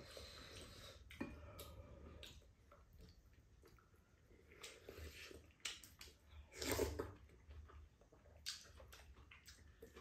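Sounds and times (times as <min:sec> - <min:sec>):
soft eating sounds: 0:00.0 - 0:10.0.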